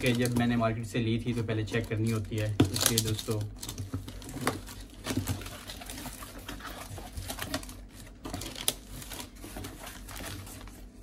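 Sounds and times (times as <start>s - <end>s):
cardboard and paper rustling: 0.0s - 11.0s.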